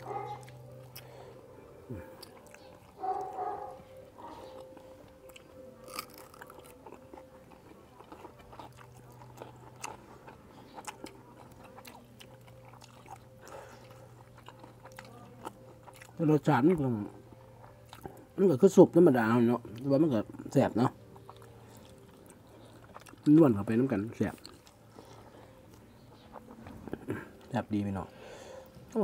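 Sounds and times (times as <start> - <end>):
people chewing crunchy food: 0.0 - 29.0.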